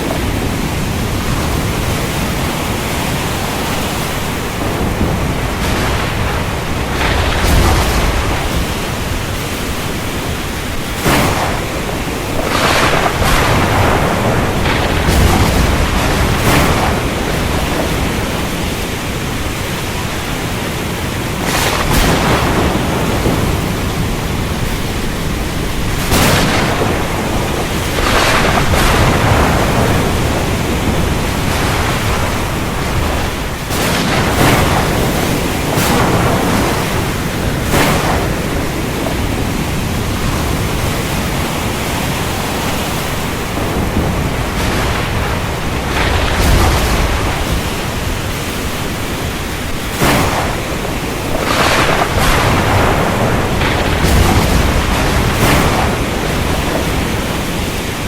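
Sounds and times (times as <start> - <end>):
deep thunder rumble: 0.0 - 58.0
heavy rain pouring: 0.0 - 58.0
sharp thunder cracks: 0.0 - 58.0.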